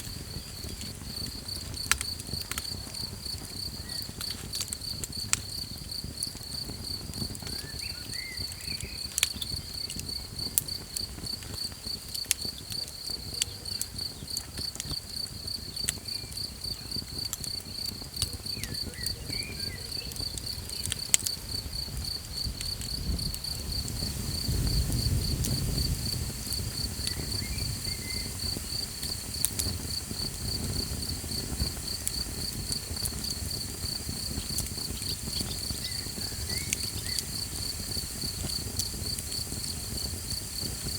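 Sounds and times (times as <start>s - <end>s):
campfire crackling and popping: 0.0s - 40.9s
crickets chirping: 0.0s - 40.9s.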